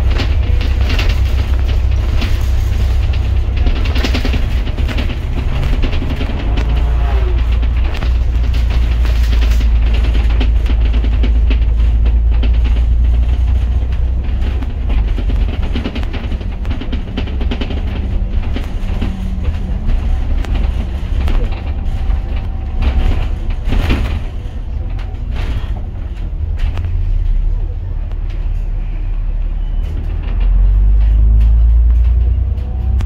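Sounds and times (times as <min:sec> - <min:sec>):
bus engine and road rumble: 0:00.0 - 0:33.0
rattles and knocks: 0:00.0 - 0:33.0.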